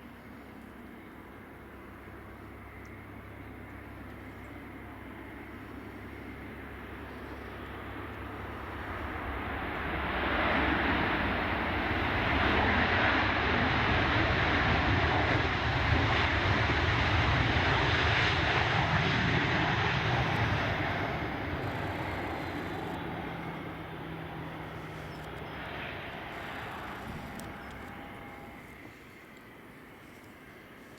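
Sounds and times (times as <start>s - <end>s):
jet aircraft engines passing: 0.0s - 30.9s.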